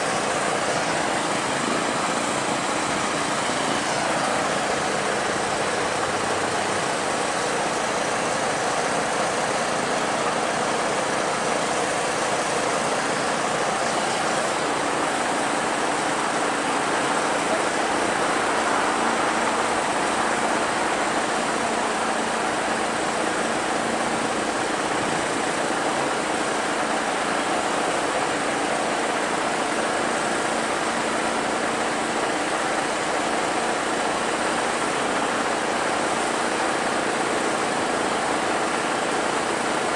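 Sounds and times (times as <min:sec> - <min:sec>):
crane engine running: 0:00.0 - 0:39.9.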